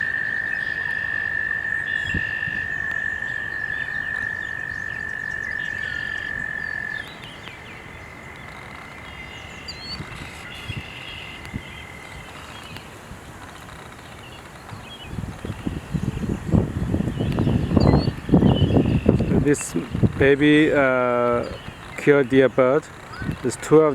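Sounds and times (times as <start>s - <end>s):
frog trilling: 0.0s - 23.9s.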